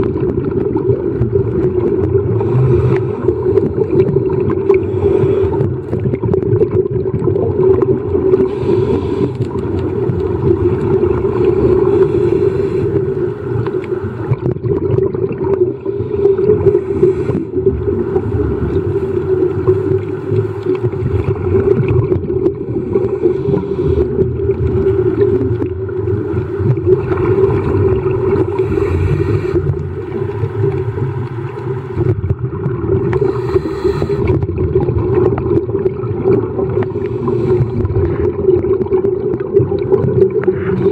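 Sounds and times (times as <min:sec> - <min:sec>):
low underwater drone: 0:00.0 - 0:40.9
regulator bubbles hissing: 0:00.0 - 0:40.9.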